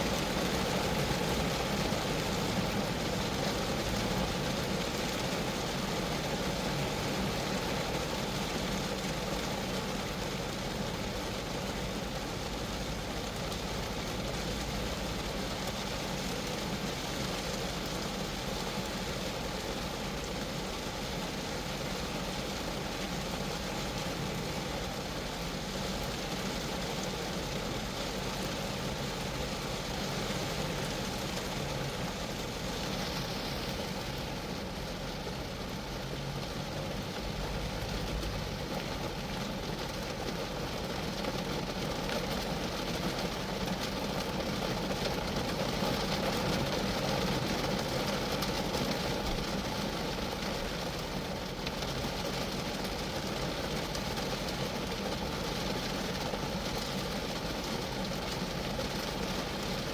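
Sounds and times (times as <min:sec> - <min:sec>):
rain drumming on car roof: 0:00.0 - 0:59.9.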